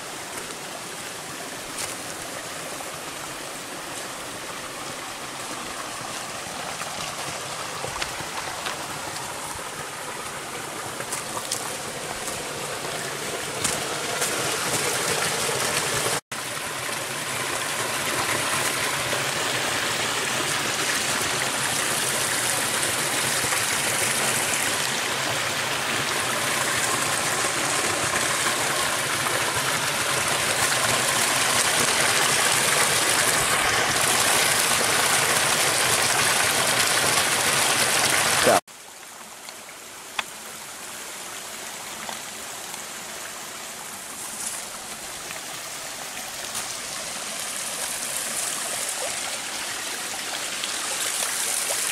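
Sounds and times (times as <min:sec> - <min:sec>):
creek rushing over a cascade: 0:00.0 - 0:51.9.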